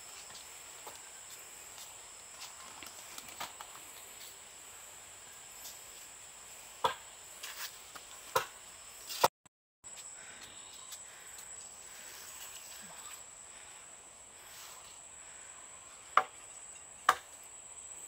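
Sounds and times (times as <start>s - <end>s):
insects droning: 0.0s - 9.3s, 9.9s - 18.0s.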